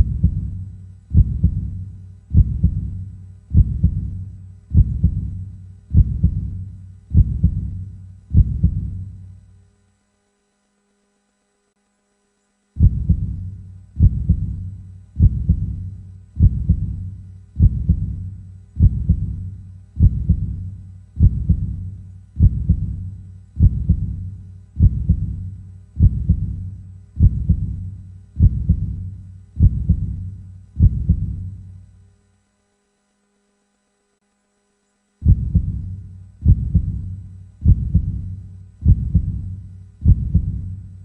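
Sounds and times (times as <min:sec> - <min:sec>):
slow heartbeat thumps: 0:00.0 - 0:09.3, 0:12.8 - 0:31.8, 0:35.2 - 0:41.0.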